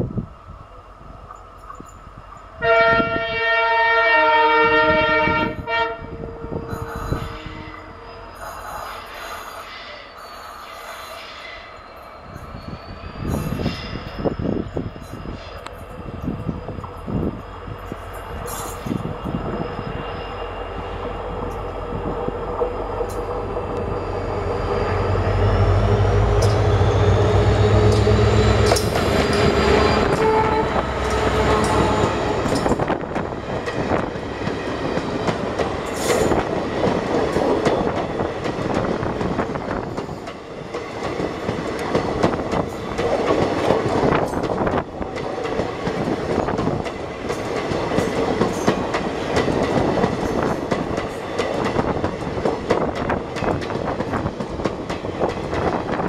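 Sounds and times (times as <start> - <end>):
diesel locomotive engine droning: 0.0 - 56.0
train wheels rumbling on rails: 4.2 - 56.0.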